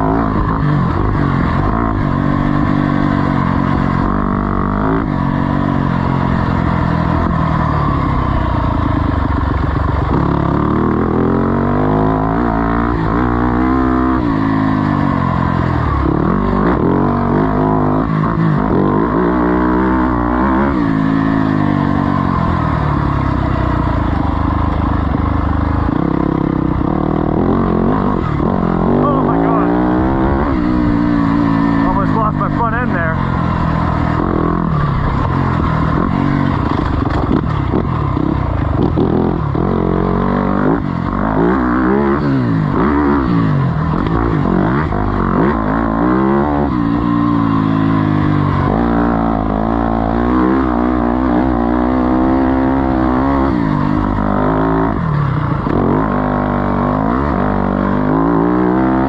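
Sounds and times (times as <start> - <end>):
off-road motorcycle engine revving: 0.0 - 59.0.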